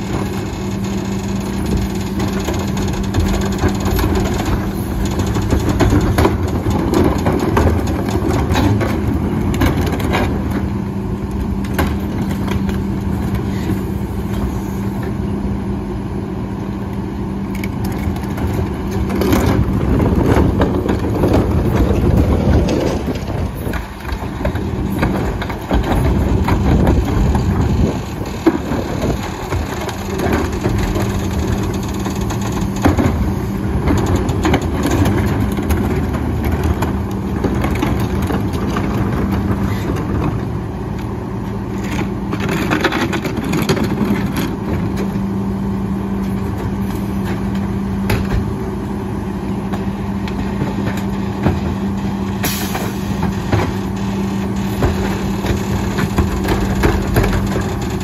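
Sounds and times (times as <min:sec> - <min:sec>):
carts rumbling and banging: 0:00.0 - 0:58.0
garbage truck humming: 0:00.0 - 0:58.0.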